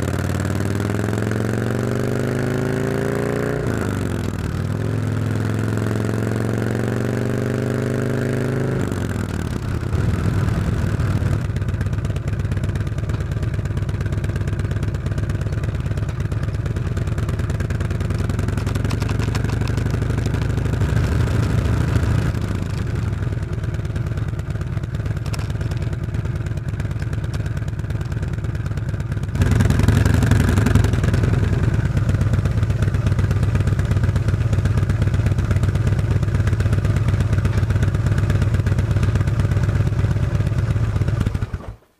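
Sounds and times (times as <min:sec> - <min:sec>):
motorcycle engine exhaust: 0:00.0 - 0:41.7.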